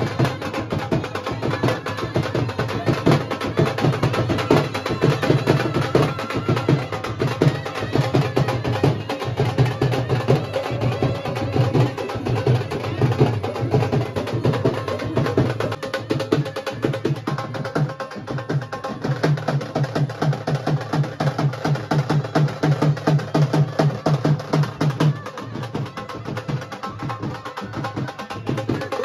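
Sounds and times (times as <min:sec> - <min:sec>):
wedding music with fast drumming: 0:00.0 - 0:29.0.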